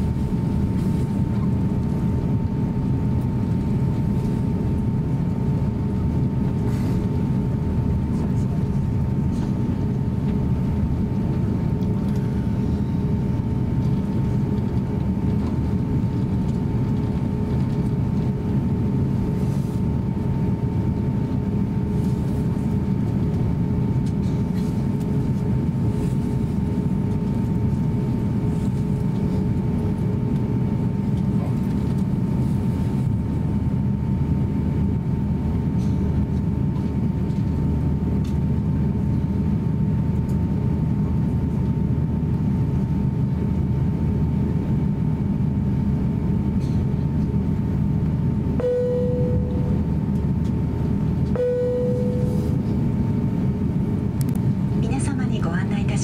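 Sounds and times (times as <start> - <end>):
aircraft cabin engine drone: 0.0 - 56.0
mid-pitched whine: 0.0 - 56.0.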